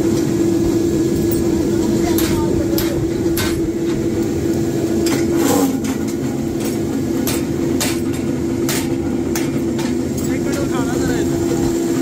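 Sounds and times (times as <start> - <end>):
power press droning: 0.0 - 12.0.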